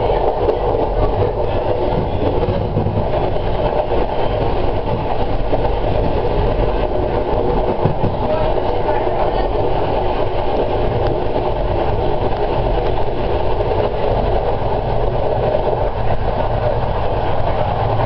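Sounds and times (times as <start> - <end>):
train engine drone: 0.0 - 18.0
train wheels rolling on rails: 0.0 - 18.0.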